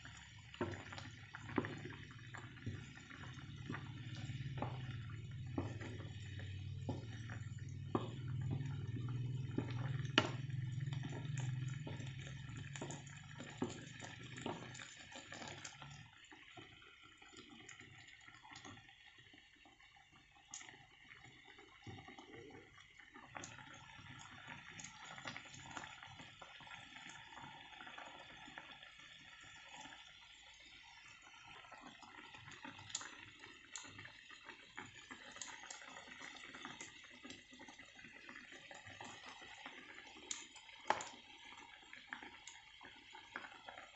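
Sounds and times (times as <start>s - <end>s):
sauce simmering and bubbling: 0.0s - 43.9s.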